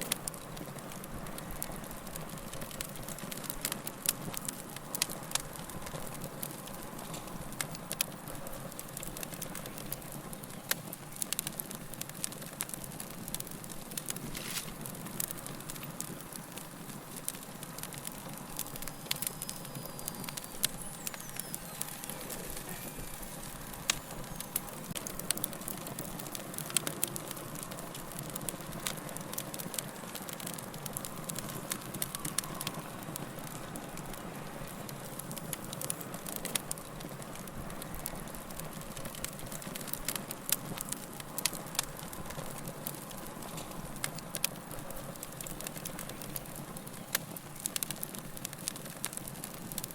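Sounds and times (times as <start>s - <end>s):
burning wood popping and snapping: 0.0s - 49.9s
hiss and rumble of flames: 0.0s - 49.9s.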